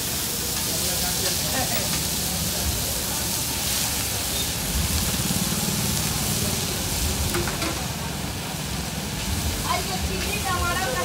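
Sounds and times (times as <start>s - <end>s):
noodles sizzling on griddle: 0.0s - 11.0s.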